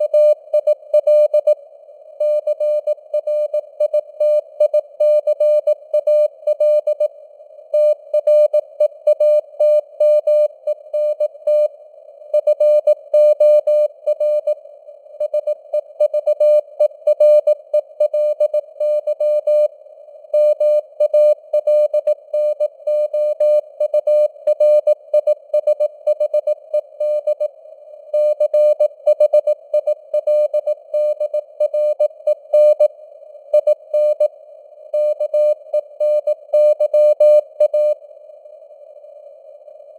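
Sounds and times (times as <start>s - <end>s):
receiver hiss: 0.0s - 39.9s.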